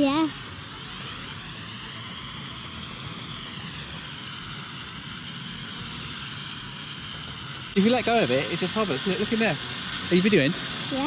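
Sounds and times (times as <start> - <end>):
toy drone motors whining: 0.0 - 11.0.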